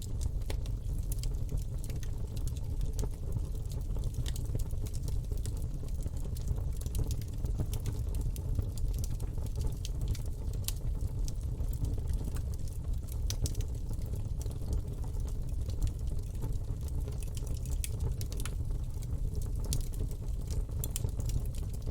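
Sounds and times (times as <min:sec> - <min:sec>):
burning wood crackling and popping: 0:00.0 - 0:21.9
campfire flames rumbling: 0:00.0 - 0:21.9.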